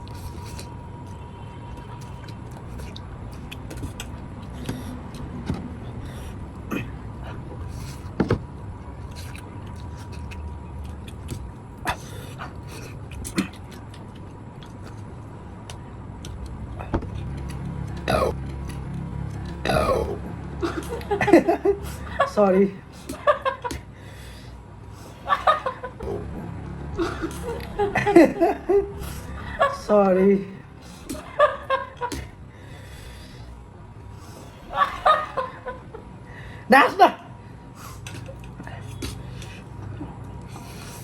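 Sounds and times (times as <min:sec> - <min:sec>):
steady low rumble: 0:00.0 - 0:36.7.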